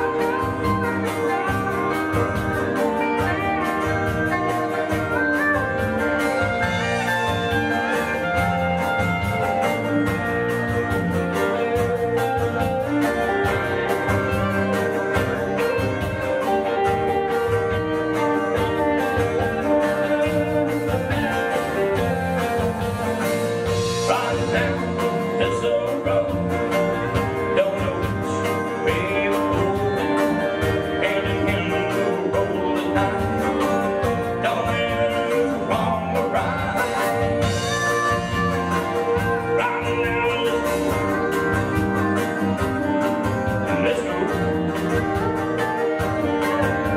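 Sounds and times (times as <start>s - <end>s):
acoustic guitar: 0.0s - 46.9s
bass guitar: 0.0s - 46.9s
drum kit: 0.0s - 46.9s
electric guitar: 0.0s - 46.9s.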